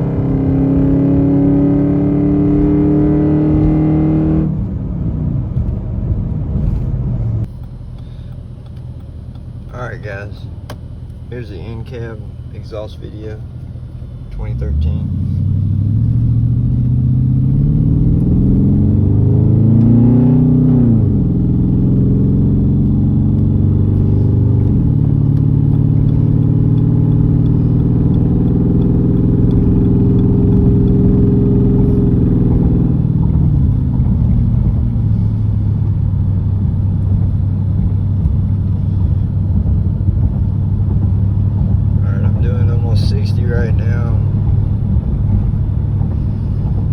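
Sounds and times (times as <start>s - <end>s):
car exhaust drone while driving: 0.0s - 46.9s.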